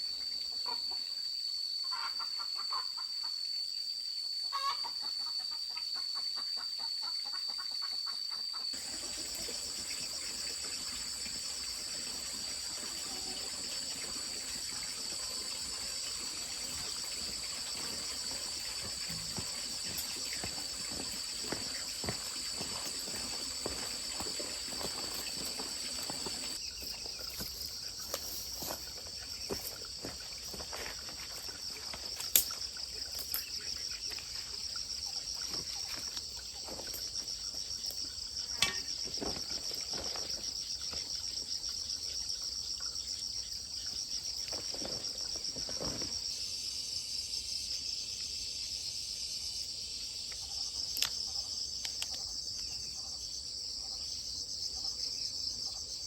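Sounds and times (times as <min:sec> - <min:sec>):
insect chorus trilling: 0:00.0 - 0:56.0.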